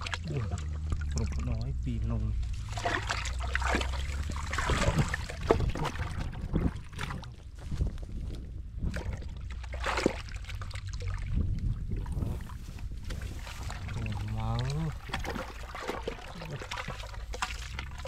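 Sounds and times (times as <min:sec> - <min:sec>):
wind rumbling on microphone: 0:00.7 - 0:16.6.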